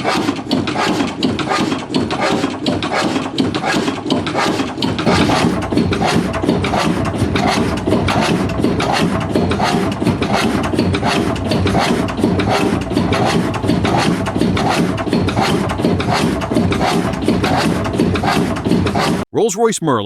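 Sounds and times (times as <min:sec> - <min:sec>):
diesel engine clattering: 0:00.4 - 0:19.1.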